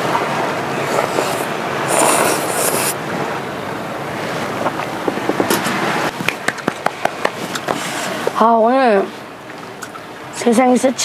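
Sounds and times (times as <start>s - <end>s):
sea waves washing onto beach: 0.0s - 10.4s
wind: 0.0s - 11.0s.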